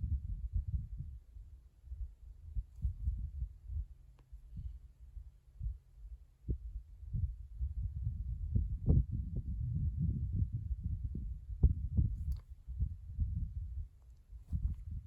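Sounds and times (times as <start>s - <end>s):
low rumbling with soft thuds: 0.0s - 15.0s.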